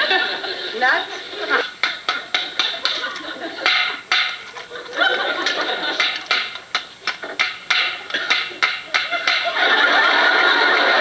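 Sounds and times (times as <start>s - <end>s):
audience laughing: 0.0s - 6.8s, 7.9s - 11.0s.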